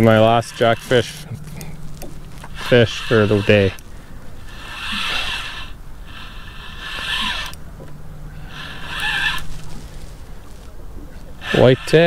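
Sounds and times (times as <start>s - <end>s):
fishing reel whirring: 0.0s - 10.7s, 11.3s - 12.0s.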